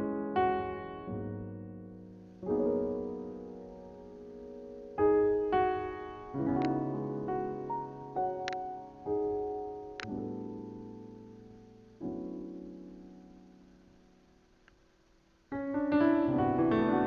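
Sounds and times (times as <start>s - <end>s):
slow gentle piano music: 0.0s - 14.4s, 15.5s - 17.0s.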